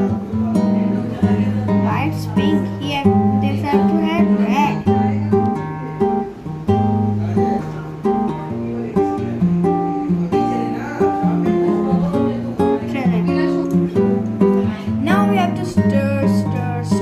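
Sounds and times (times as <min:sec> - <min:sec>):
guitar plucking chords: 0:00.0 - 0:17.0.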